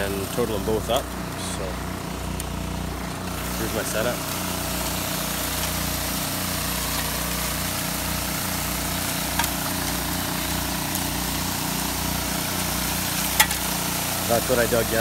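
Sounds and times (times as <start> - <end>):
water pump engine running: 0.0 - 15.0
water spraying and pouring: 0.0 - 15.0.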